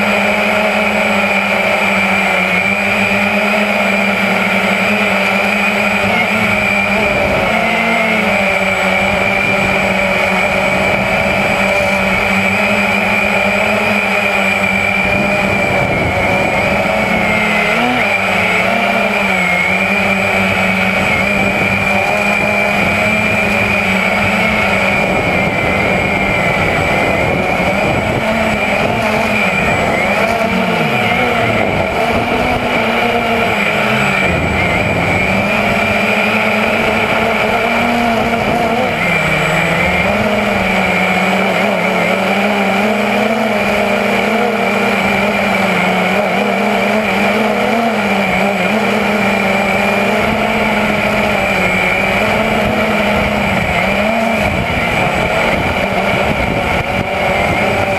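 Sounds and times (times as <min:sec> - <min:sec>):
drone propeller whine: 0:00.0 - 0:57.9.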